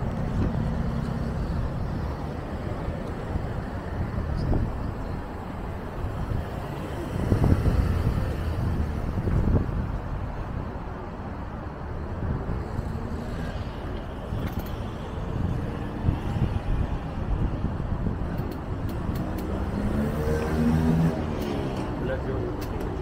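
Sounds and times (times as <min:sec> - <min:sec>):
cars driving past: 0:00.0 - 0:10.6, 0:11.3 - 0:23.0
traffic rumble: 0:00.0 - 0:23.0.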